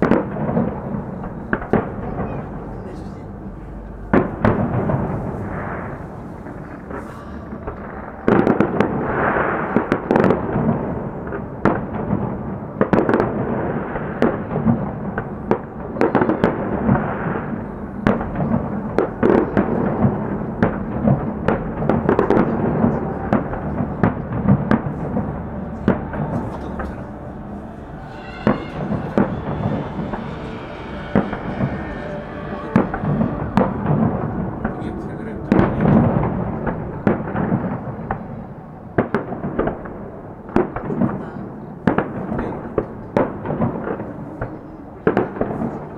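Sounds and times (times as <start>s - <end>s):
fireworks bursting: 4.1s - 45.9s.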